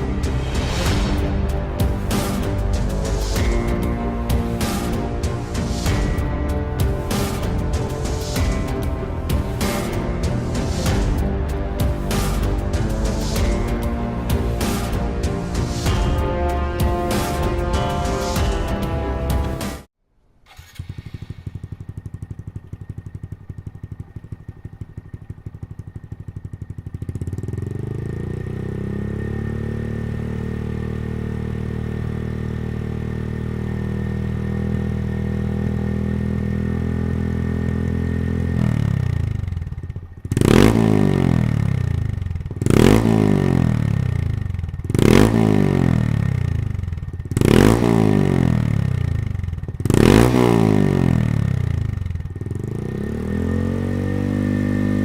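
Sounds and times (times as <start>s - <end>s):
motorcycle engine idling: 0.0s - 17.1s, 20.5s - 55.0s
motorcycle engine revving: 0.0s - 19.9s, 20.5s - 55.0s.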